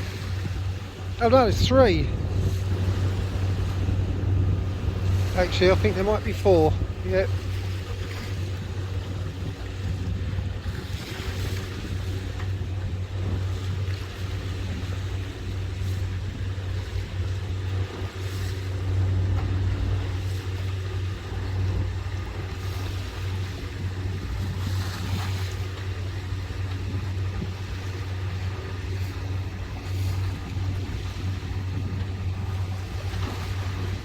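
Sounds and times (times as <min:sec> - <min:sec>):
diesel boat engine droning: 0:00.0 - 0:34.0
water rushing along hull: 0:00.0 - 0:34.0.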